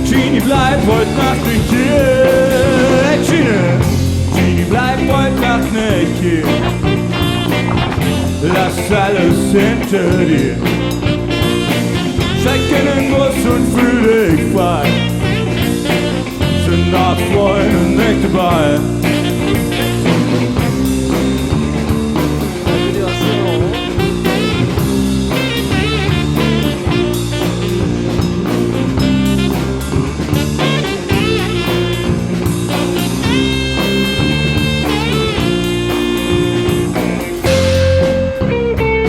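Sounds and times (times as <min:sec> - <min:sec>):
bass and drums: 0:00.0 - 0:39.0
electric guitar bent notes: 0:00.0 - 0:39.0.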